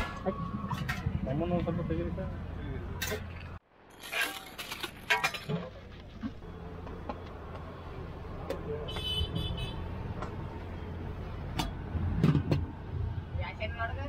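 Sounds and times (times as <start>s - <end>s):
roadside traffic: 0.0s - 14.0s.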